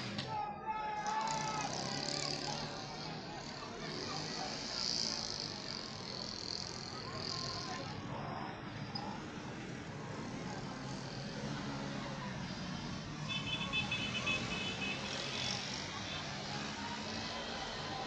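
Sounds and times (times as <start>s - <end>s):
motor vehicle engines running: 0.0s - 18.0s
motorbikes: 0.0s - 18.0s.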